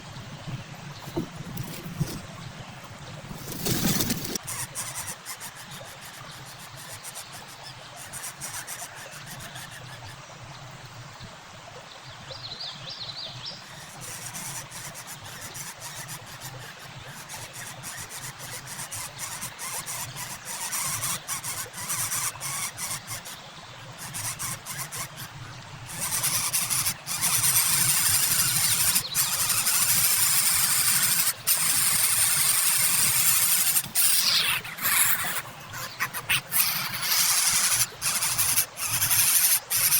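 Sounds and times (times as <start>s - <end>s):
birds squealing and hissing: 3.4s - 10.2s, 13.5s - 39.9s.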